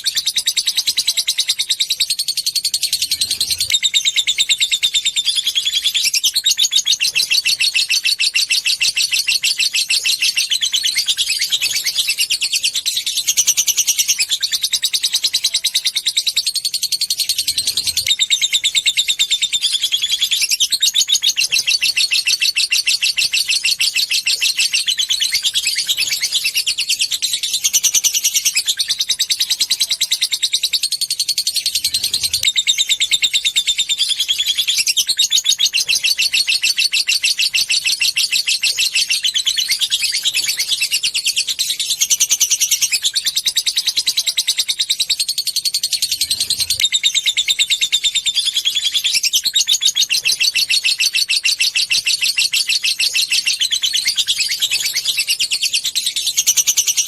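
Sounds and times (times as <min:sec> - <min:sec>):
lovebird chattering trill: 0:00.0 - 0:57.0.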